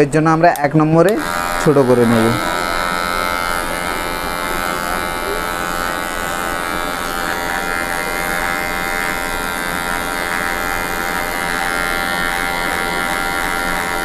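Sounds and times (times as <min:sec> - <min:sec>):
electric hair clipper buzzing: 0:00.4 - 0:14.0.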